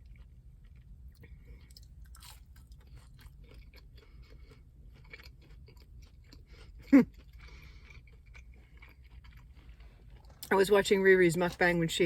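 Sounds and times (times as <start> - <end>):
person chewing with crunches: 0.0 - 10.6
low steady rumble: 0.0 - 12.0.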